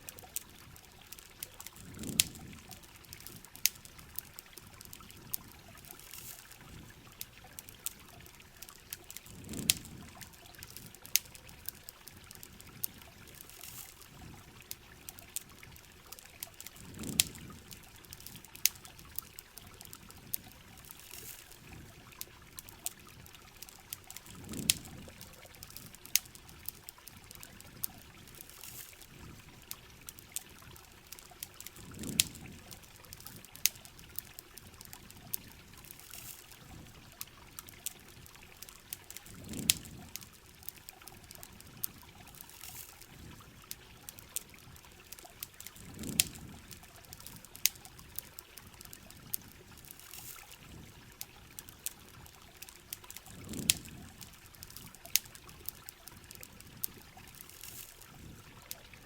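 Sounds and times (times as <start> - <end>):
campfire crackling: 0.0 - 59.0
low watery gurgle: 0.0 - 59.0.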